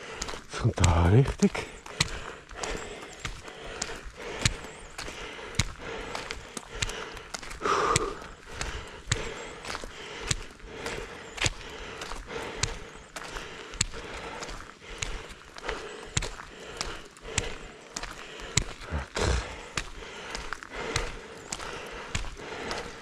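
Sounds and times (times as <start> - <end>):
footsteps on gravelly asphalt: 0.0 - 23.0.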